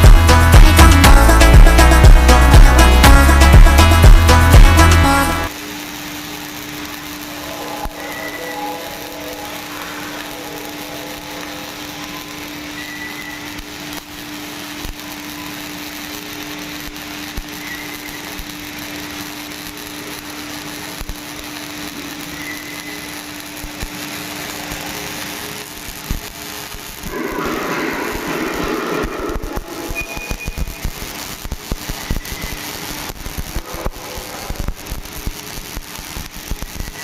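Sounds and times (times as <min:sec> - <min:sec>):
welding hiss: 0:00.0 - 0:37.0
welding machine hum: 0:00.0 - 0:37.0.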